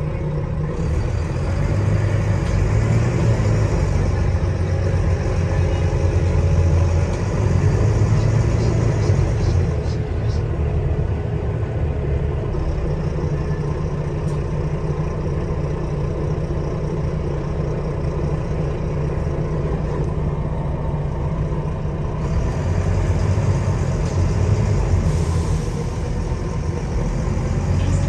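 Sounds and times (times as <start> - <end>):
bus diesel engine rumbling: 0.0 - 28.0.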